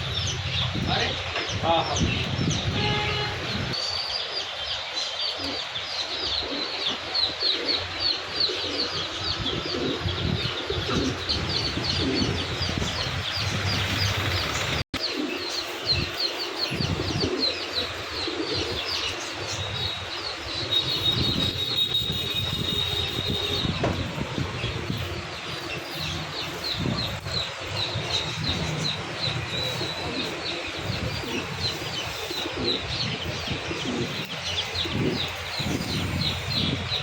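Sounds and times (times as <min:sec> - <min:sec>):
caged birds chirping: 0:00.0 - 0:37.0
pigeons cooing: 0:05.3 - 0:37.0.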